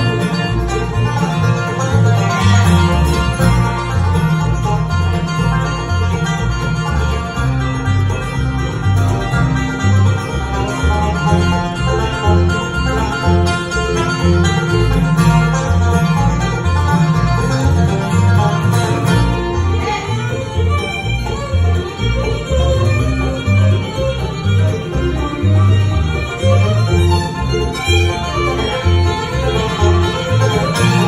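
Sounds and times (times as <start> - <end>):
acoustic guitar: 0.0 - 31.0
banjo rolls: 0.0 - 31.0
fiddle: 0.0 - 31.0
mandolin: 0.0 - 31.0
upright bass: 0.0 - 31.0.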